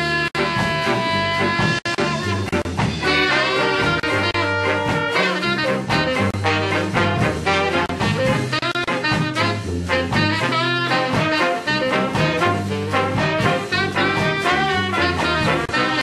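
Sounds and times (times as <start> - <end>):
ska brass band music: 0.0 - 16.0.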